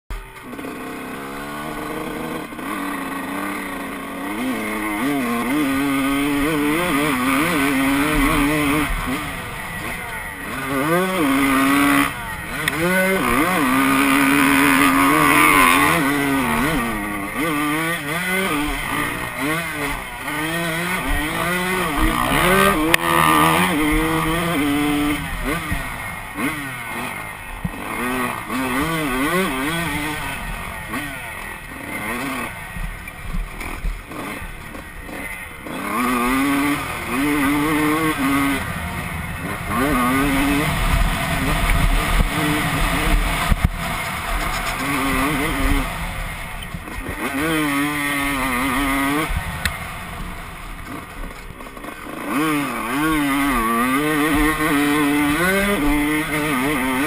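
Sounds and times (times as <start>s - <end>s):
motocross engine revving: 0.1s - 57.0s.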